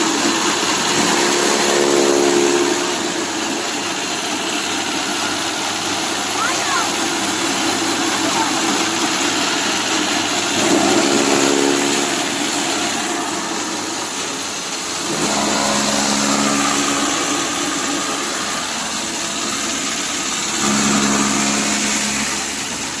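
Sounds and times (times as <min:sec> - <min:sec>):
chaff cutter machine running: 0:00.0 - 0:23.0
low hum: 0:00.0 - 0:23.0.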